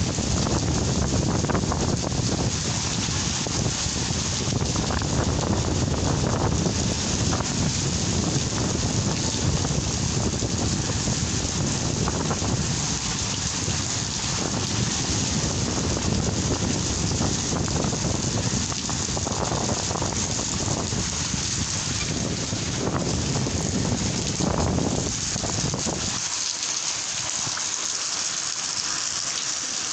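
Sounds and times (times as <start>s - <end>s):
wind rumbling on microphone: 0.0s - 26.3s
steady rain falling: 0.0s - 29.9s.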